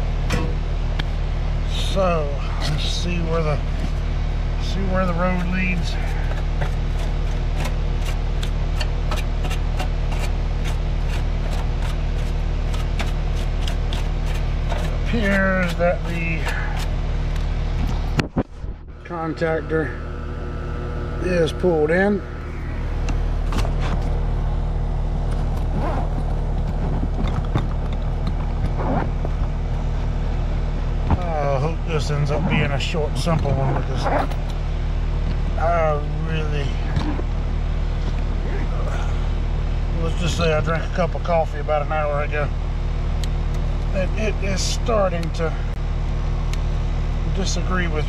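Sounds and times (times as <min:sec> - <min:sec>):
air conditioner unit humming: 0:00.0 - 0:48.0.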